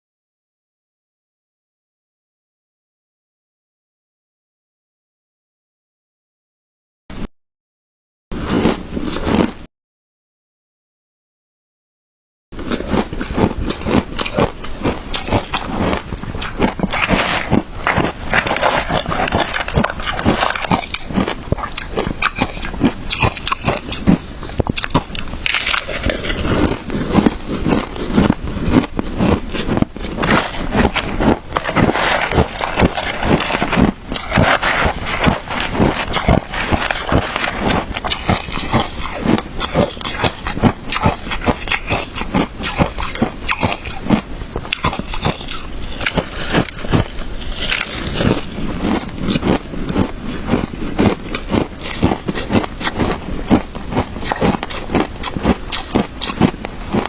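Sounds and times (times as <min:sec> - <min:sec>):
chewing crunchy shaved ice: 0:08.4 - 0:09.7, 0:12.6 - 0:57.0.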